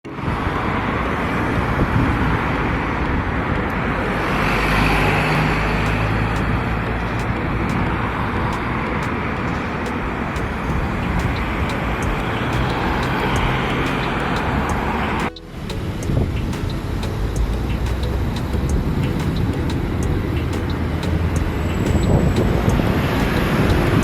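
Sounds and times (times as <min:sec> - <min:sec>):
car driving road noise: 0:00.0 - 0:24.0.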